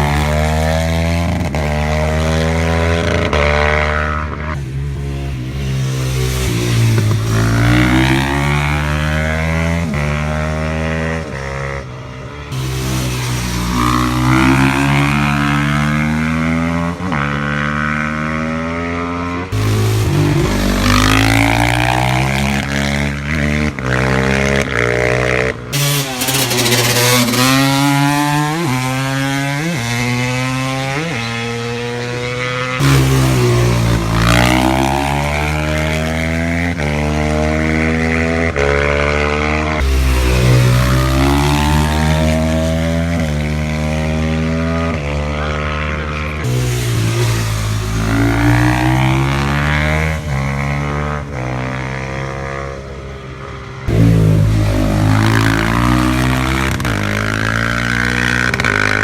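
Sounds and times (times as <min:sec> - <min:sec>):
racing motorcycle engines full throttle: 0:00.0 - 0:59.0.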